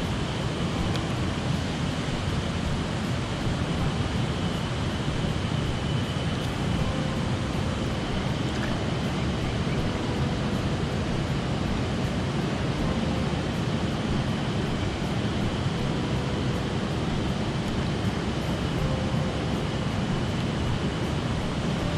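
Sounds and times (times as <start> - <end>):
stream water rushing: 0.0 - 21.9.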